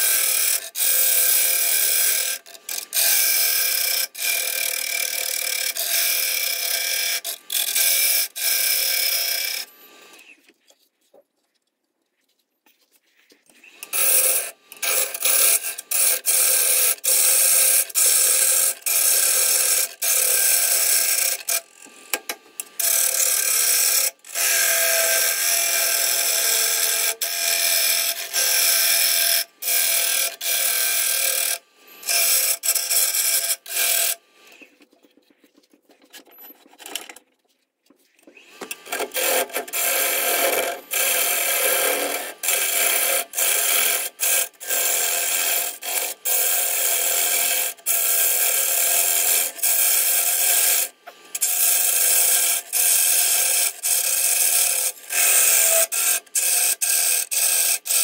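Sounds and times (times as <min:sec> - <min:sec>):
gouge cutting wood on a lathe: 0:00.0 - 0:10.2, 0:13.8 - 0:34.6, 0:38.6 - 0:58.0.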